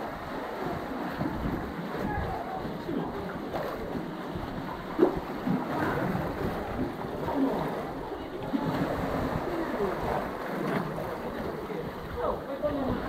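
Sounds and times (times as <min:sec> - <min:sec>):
waves sloshing over rocks: 0:00.0 - 0:13.0.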